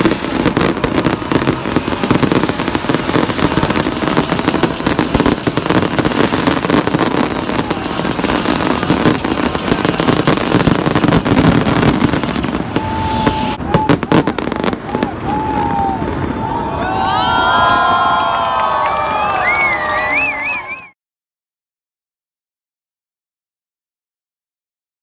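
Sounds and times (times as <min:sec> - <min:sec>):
fireworks bangs and crackles: 0:00.0 - 0:20.8.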